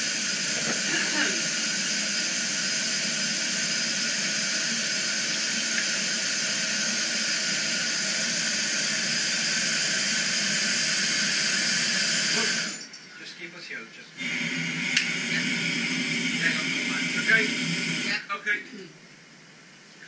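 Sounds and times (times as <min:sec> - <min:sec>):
compressed air hissing: 0:00.0 - 0:12.9, 0:14.2 - 0:18.2.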